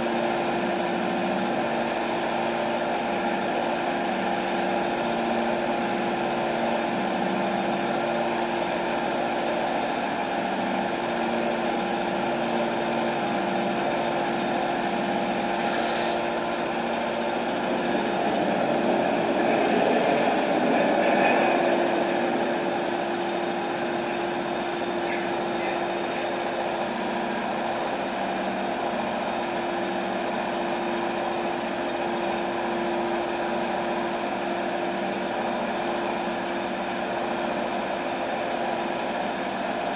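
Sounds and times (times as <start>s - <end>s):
sawmill engine idling: 0.6s - 39.9s.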